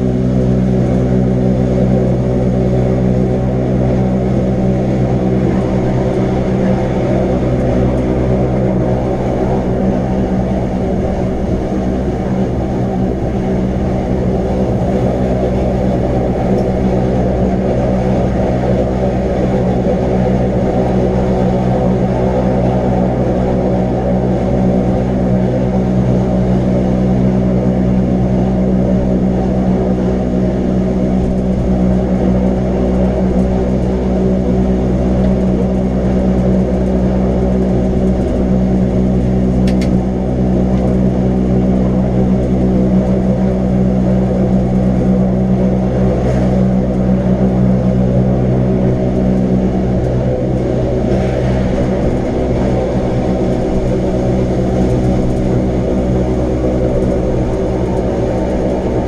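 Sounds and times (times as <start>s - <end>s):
electric train motor hum: 0.0s - 59.0s.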